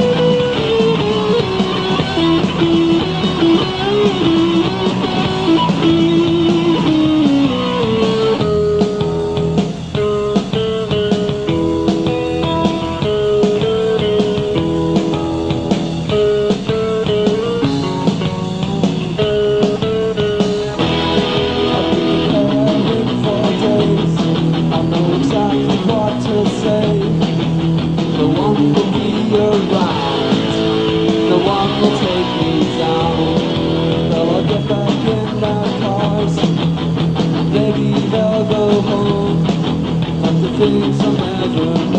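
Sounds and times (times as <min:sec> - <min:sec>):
picked electric guitar melody: 0:00.0 - 0:41.9
rock band playing: 0:00.0 - 0:41.9.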